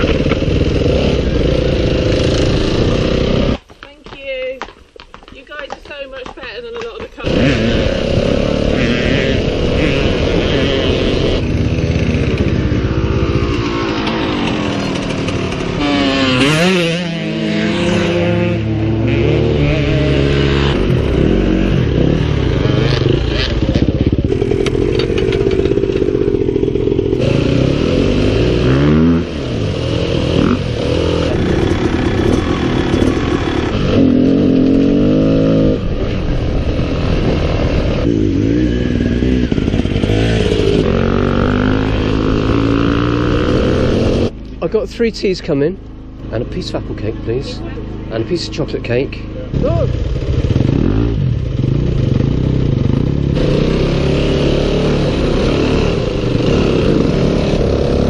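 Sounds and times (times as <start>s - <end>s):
motorbike engine revving: 0.0s - 3.7s, 7.2s - 58.0s.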